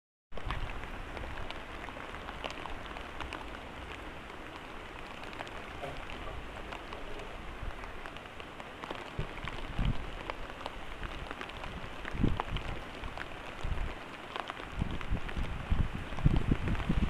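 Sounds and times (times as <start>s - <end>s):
steady rain falling: 0.3s - 17.0s.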